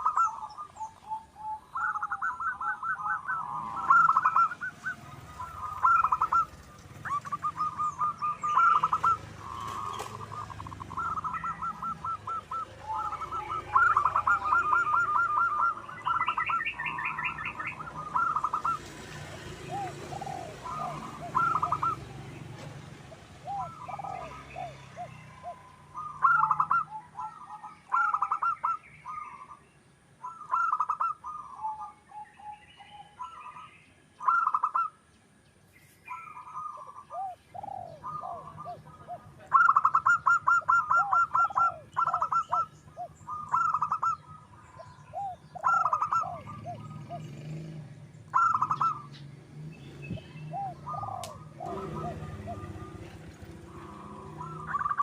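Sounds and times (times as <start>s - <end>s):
doves cooing: 0.0s - 29.6s, 30.2s - 35.0s, 36.1s - 55.0s.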